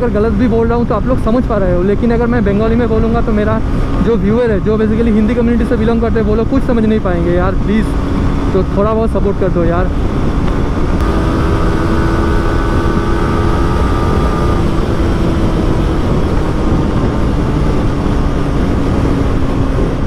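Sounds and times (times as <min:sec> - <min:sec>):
motorcycle engine at speed: 0:00.0 - 0:20.0
wind rush over microphone: 0:00.0 - 0:20.0.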